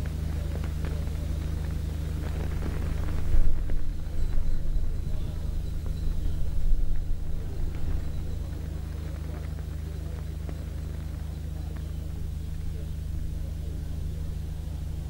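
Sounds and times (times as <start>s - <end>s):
faint voices: 0.0s - 15.0s
rumbling noise: 0.0s - 15.0s
steady low hum: 0.0s - 15.0s.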